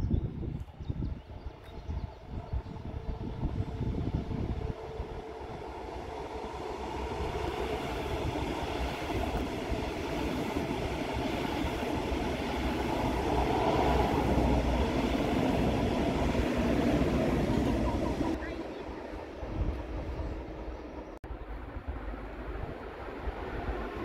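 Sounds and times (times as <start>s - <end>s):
train rumbling along rails: 0.0s - 24.0s.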